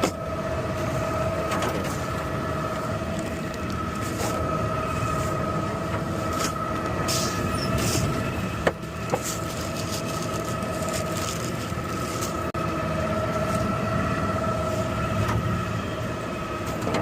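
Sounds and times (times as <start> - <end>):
garbage truck engine and hydraulics: 0.0 - 17.0.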